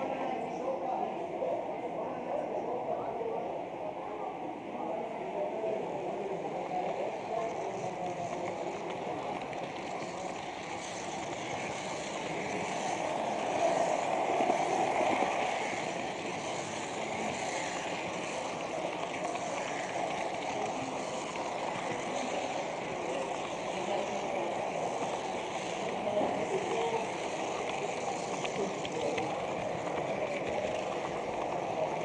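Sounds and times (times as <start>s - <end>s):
model train rumbling on track: 0.0s - 32.0s.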